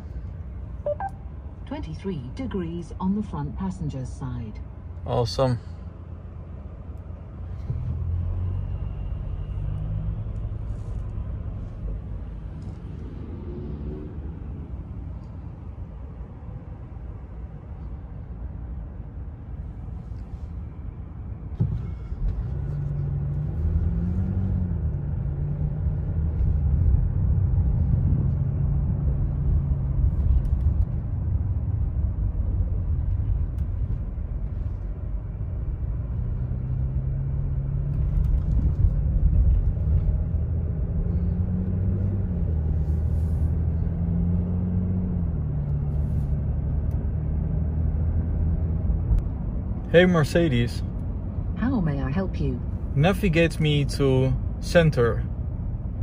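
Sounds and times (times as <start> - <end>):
diesel engine from inside car: 0.0 - 56.0.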